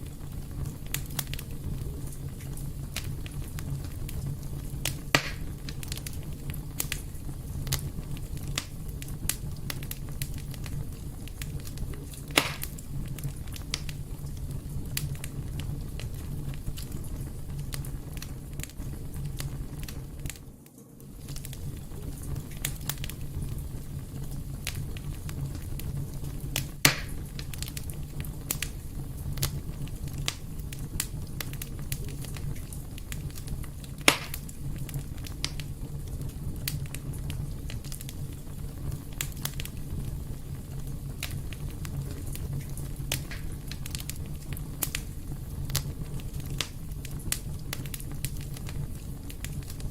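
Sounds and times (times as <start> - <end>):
loud fire pops: 0.0 - 49.9
wood fire crackling: 0.0 - 49.9.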